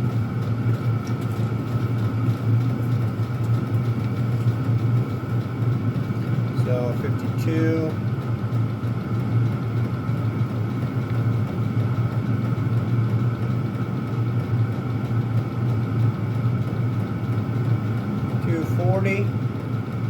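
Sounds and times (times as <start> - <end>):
air heaters humming: 0.0 - 20.0.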